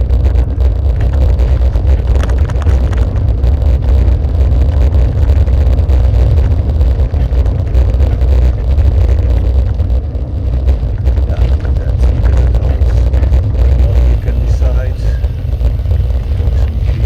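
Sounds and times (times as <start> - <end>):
vehicle rumbling on bumpy road: 0.0 - 17.0
rattling: 0.4 - 17.0.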